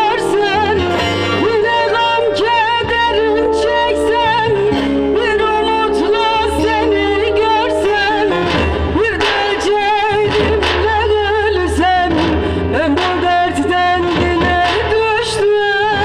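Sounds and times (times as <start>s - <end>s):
plucked string accompaniment: 0.0s - 16.0s.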